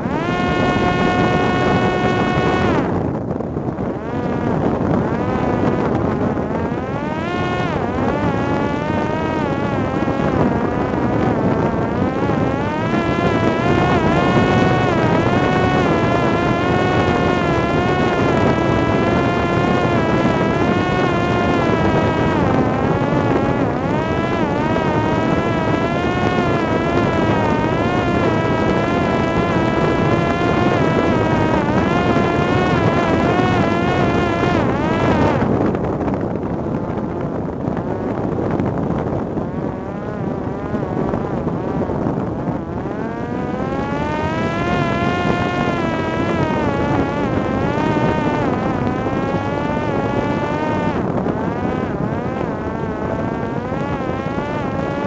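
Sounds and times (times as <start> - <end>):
drone propeller whining: 0.0 - 55.0
wind on microphone: 0.0 - 55.0.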